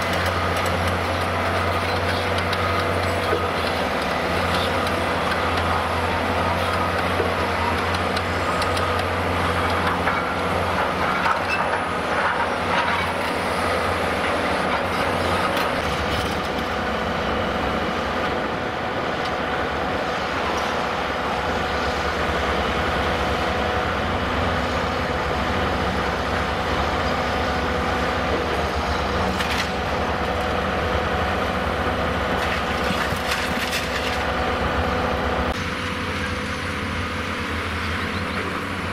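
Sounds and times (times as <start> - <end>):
diesel excavator engine hum: 0.0 - 38.9.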